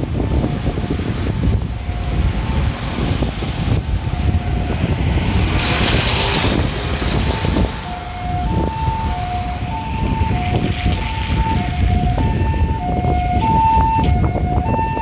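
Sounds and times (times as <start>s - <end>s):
two-tone ambulance siren: 0.0s - 15.0s.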